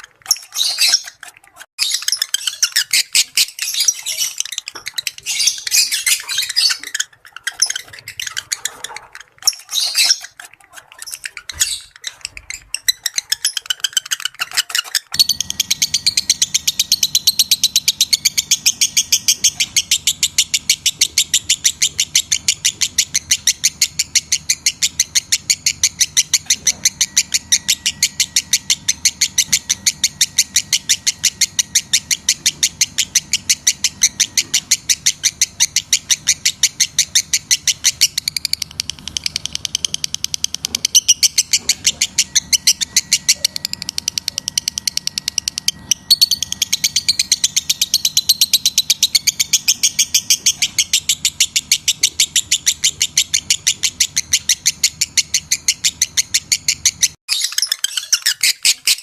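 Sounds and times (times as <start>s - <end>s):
lovebird shrill chirping: 0.0s - 59.0s.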